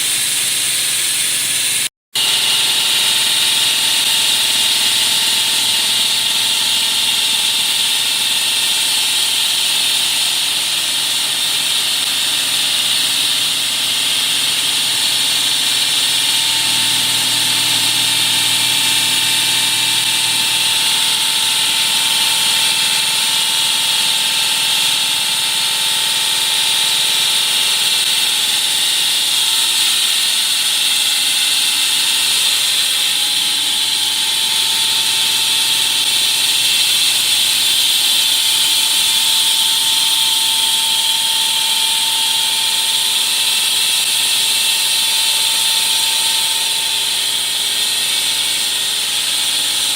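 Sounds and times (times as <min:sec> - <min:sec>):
concrete wall saw running: 0:00.0 - 0:49.9.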